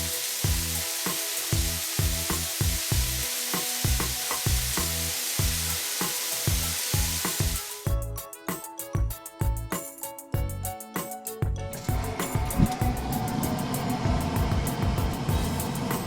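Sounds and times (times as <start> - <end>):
sizzling hiss: 0.0 - 8.9, 12.0 - 16.0
background music with steady beat: 0.0 - 16.0.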